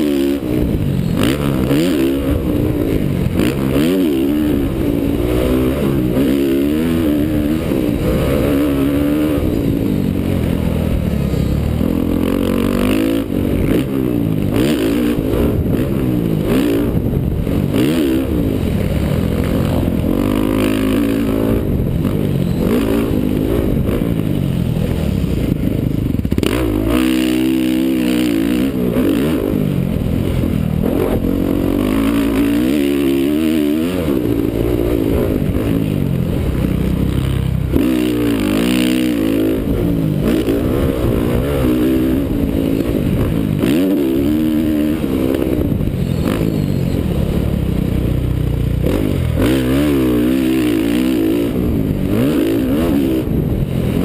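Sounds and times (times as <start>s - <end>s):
muffled motorcycle engine revving: 0.0s - 54.0s.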